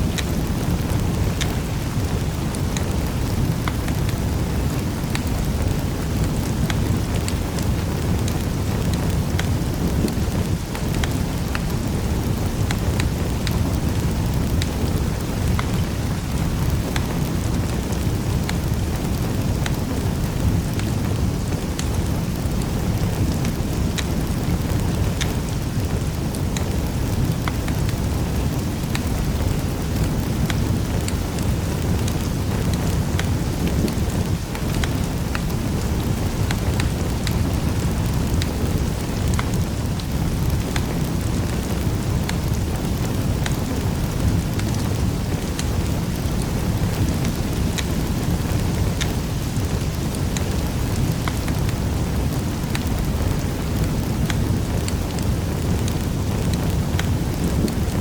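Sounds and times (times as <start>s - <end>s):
low rumble of burning fire: 0.0s - 58.0s
wood fire crackling: 0.0s - 58.0s.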